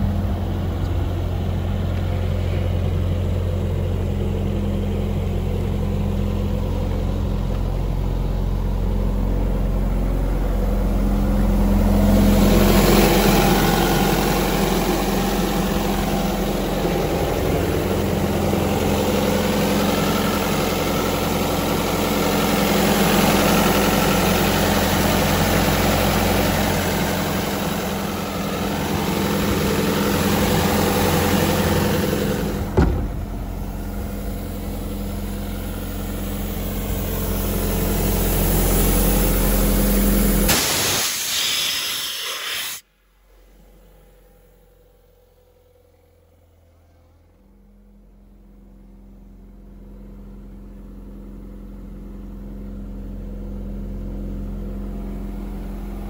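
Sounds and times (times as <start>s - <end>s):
diesel engine idling: 0.0s - 41.3s, 42.8s - 56.0s.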